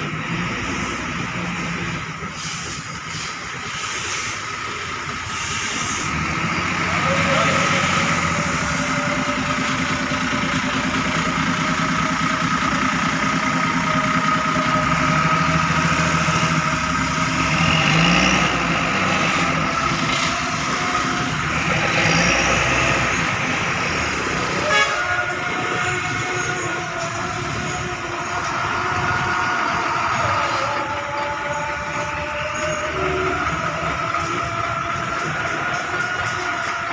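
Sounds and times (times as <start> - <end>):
bus engines running: 0.0 - 36.9
horn-like tones: 4.7 - 12.2, 13.4 - 36.9.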